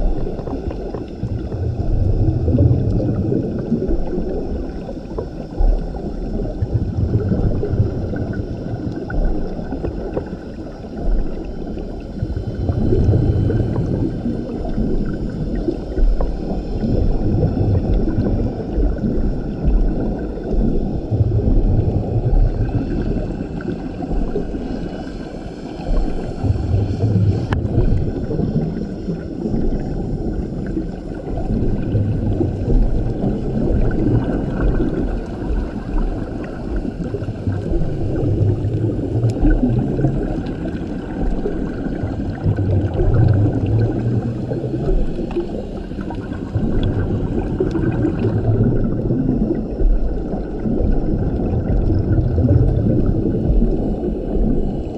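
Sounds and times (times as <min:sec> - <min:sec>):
bubbles gurgling: 0:00.0 - 0:54.9
muffled ocean noise: 0:00.0 - 0:54.9
diver regulator breathing: 0:07.3 - 0:54.9.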